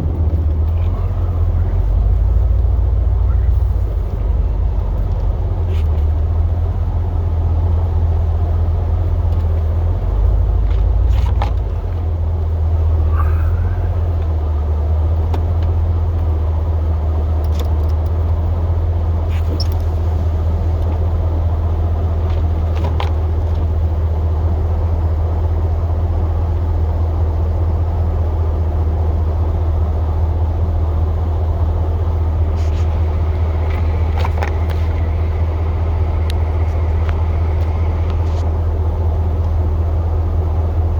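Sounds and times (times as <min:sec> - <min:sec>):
truck engine droning: 0:00.0 - 0:40.9.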